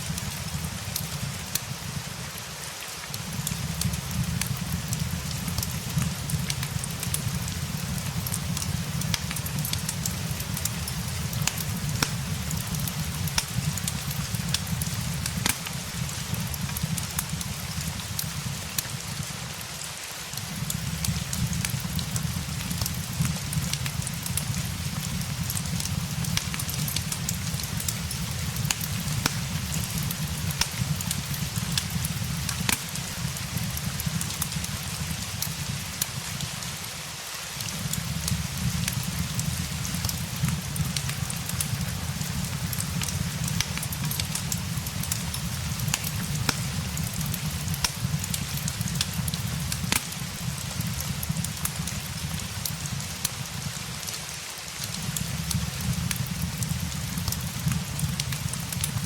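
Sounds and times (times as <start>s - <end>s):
fireplace crackling: 0.0s - 59.0s
rain hiss: 0.0s - 59.0s.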